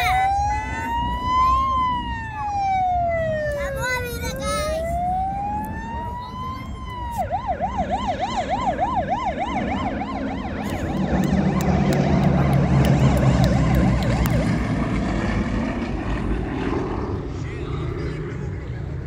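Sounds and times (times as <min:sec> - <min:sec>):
siren yelping: 0:00.0 - 0:15.9
car engine: 0:01.6 - 0:17.6.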